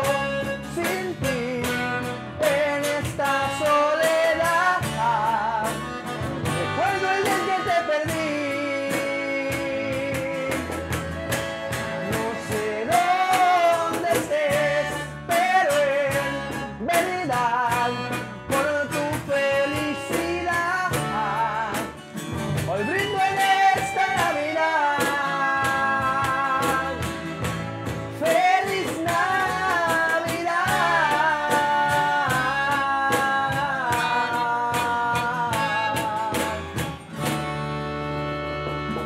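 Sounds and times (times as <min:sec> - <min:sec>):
man singing: 0:00.0 - 0:37.0
acoustic guitar: 0:00.0 - 0:39.0
button accordion: 0:00.0 - 0:39.0
cajon drum: 0:00.0 - 0:39.0
electric bass: 0:00.0 - 0:39.0.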